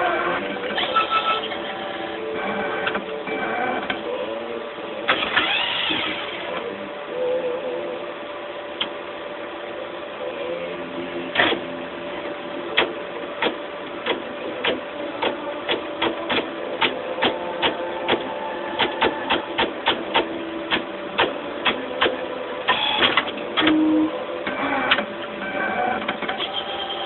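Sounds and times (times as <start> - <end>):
machine whirring: 0.0 - 27.0
motor hum: 0.0 - 27.0.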